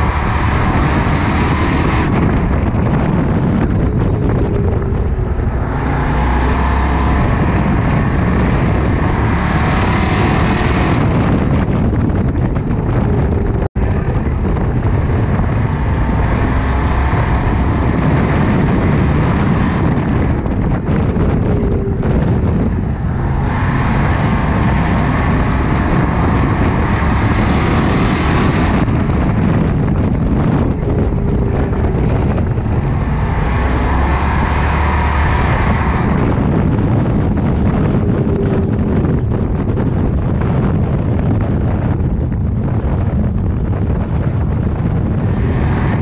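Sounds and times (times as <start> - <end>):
race car engine running hard: 0.0 - 46.0
wind and road noise: 0.0 - 46.0.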